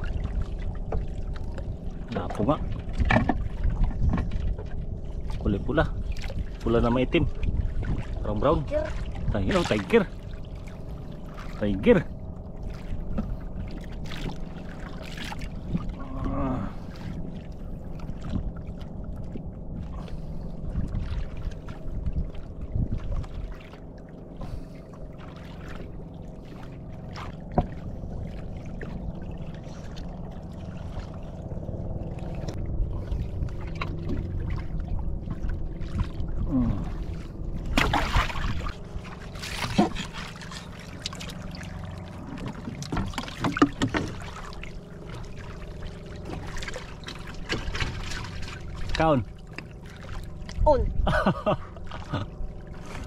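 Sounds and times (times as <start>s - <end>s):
low rumble: 0.0s - 53.0s
water lapping against hull: 0.0s - 53.0s
water splashing: 0.0s - 53.0s.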